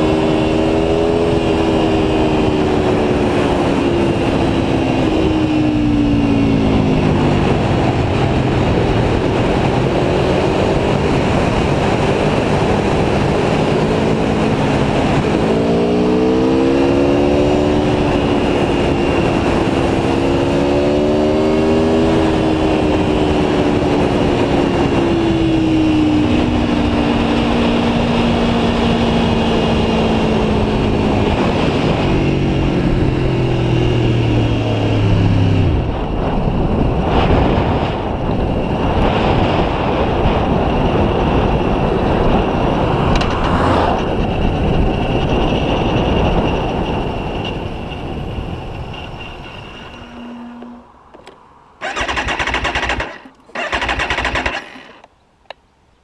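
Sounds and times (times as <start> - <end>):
motorcycle engine running: 0.0 - 50.9, 51.8 - 55.0
wind rush: 0.0 - 54.6.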